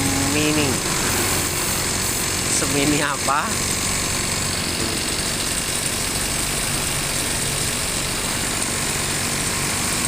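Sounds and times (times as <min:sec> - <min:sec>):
small two-stroke engine running: 0:00.0 - 0:10.0.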